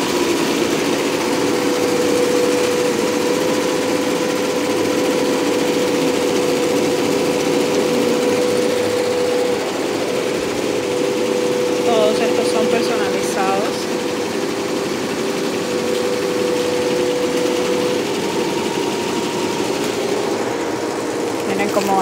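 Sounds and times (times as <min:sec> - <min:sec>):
constant machine hum: 0:00.0 - 0:22.0
embroidery machines stitching: 0:00.0 - 0:22.0.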